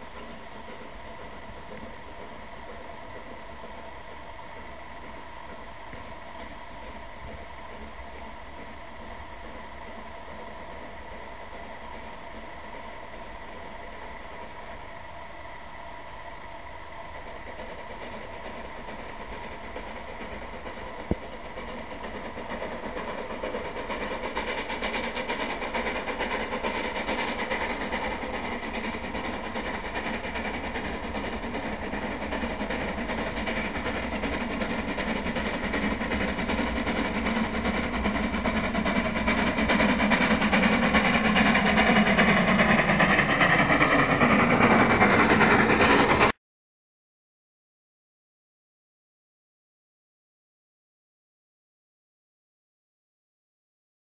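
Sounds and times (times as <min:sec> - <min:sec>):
steam locomotive running: 0:00.0 - 0:46.4.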